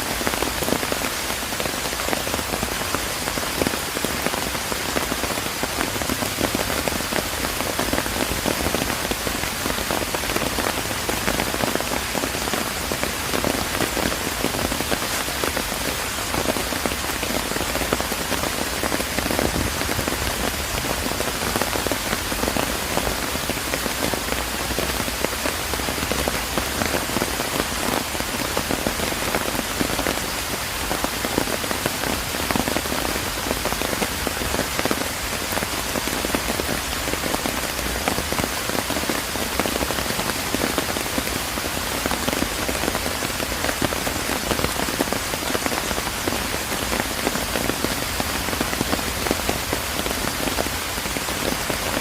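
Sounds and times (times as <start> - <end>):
rain pattering on surfaces: 0.0 - 52.0.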